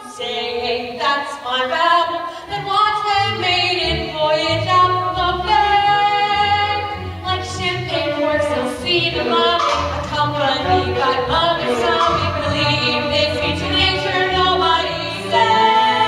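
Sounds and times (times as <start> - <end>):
several voices singing: 0.1 - 16.0.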